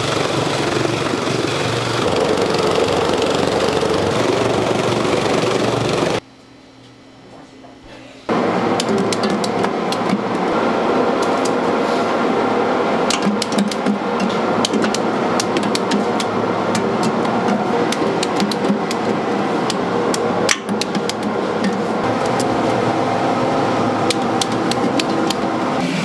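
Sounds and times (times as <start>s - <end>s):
machinery running: 0.0s - 6.2s, 8.3s - 26.0s.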